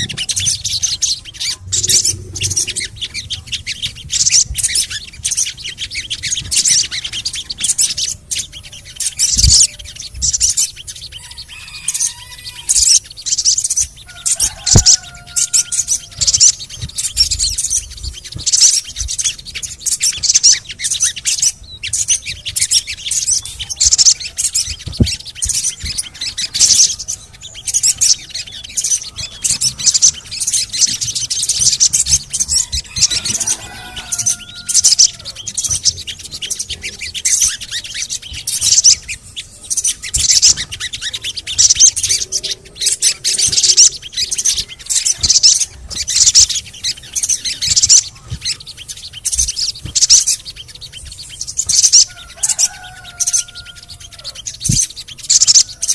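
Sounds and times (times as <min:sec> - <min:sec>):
bird chattering: 0:00.0 - 0:55.9.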